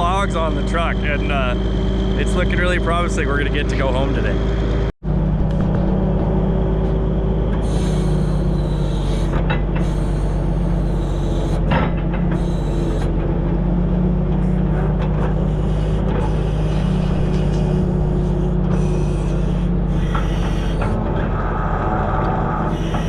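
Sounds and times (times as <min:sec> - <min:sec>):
truck engine running steadily: 0:00.0 - 0:23.0.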